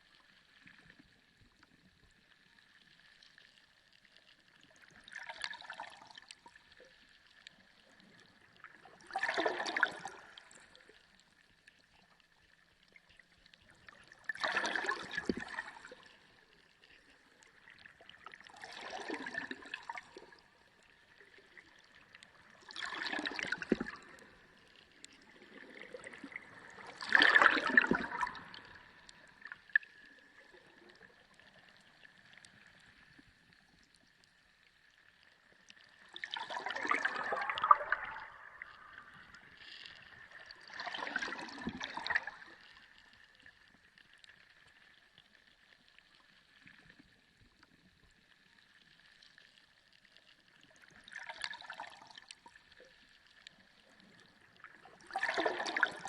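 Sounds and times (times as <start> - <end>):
water gurgling underwater: 2.8 - 11.5, 12.2 - 34.6, 35.2 - 44.2, 48.2 - 56.0.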